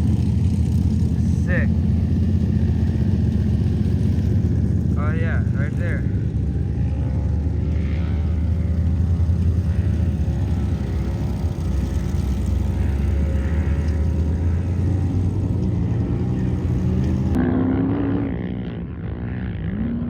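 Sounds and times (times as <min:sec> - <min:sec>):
engine revving: 0:00.0 - 0:20.0
off-road vehicle engines: 0:00.0 - 0:20.0.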